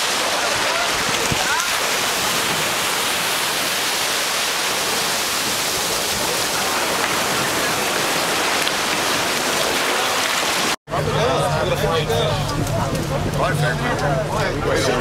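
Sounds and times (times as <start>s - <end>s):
surf washing in shallows: 0.0s - 15.0s.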